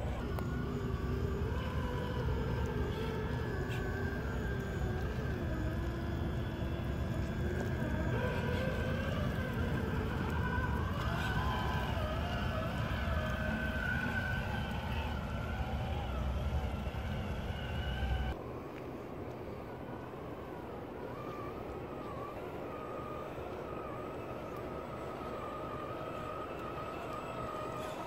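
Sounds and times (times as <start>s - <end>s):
toy car electric motor whining: 0.0s - 18.4s, 20.3s - 28.0s.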